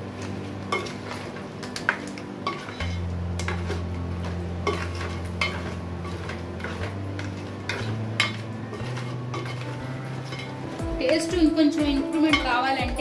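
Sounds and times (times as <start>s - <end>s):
ladle scraping a metal pan: 0.2s - 11.3s.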